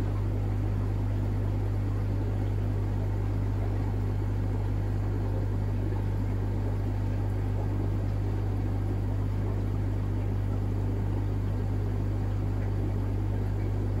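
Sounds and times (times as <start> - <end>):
bubbles gurgling in water: 0.0 - 14.0.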